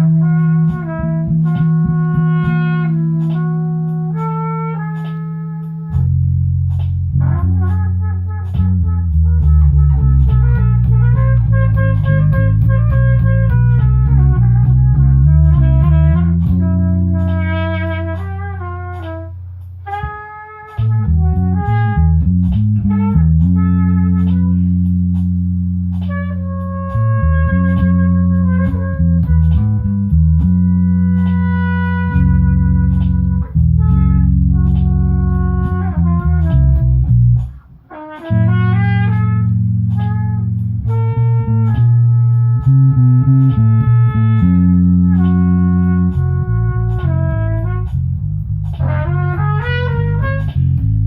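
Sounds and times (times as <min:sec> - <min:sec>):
sustained bass notes: 0:00.0 - 0:51.0.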